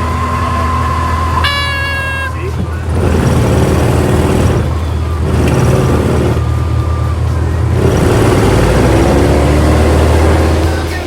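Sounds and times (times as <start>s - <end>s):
airplane engine and propeller droning: 0.0s - 11.0s.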